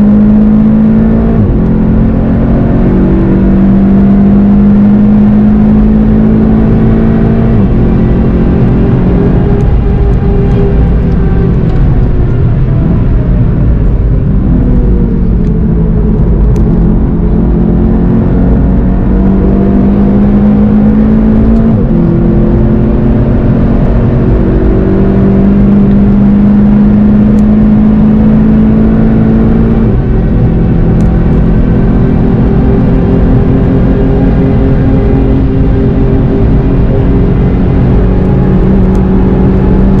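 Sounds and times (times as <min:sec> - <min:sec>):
car engine: 0:00.0 - 0:40.0.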